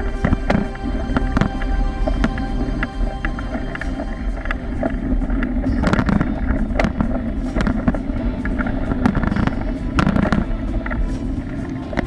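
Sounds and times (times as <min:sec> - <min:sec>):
tyres rumbling on dirt: 0:00.0 - 0:12.0
wind buffeting microphone: 0:00.0 - 0:12.0.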